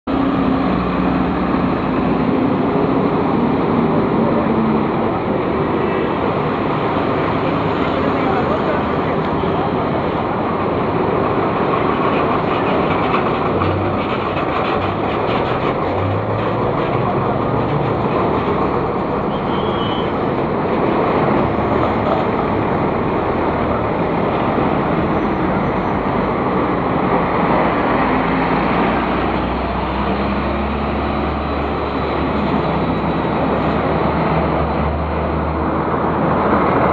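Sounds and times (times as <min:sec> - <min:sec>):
street noise: 0:00.0 - 0:36.9
diesel coach engine under load: 0:00.1 - 0:36.9.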